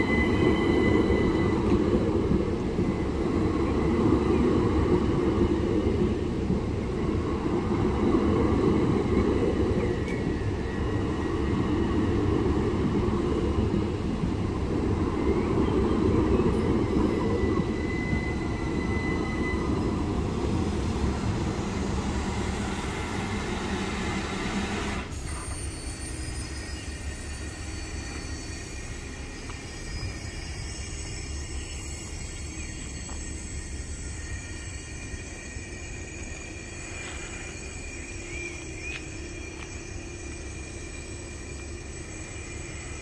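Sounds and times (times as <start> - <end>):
train wheel squeal: 0.0 - 43.0
train wheels rumbling on rails: 0.0 - 43.0.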